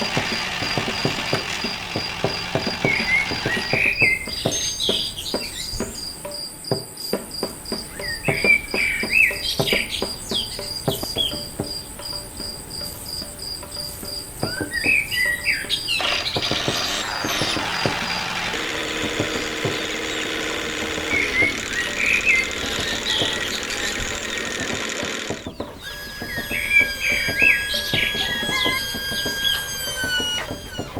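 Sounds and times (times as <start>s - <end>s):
birds chirping: 0.0s - 30.9s
high insect-like trill: 0.0s - 30.9s
mechanical hum: 0.0s - 30.9s.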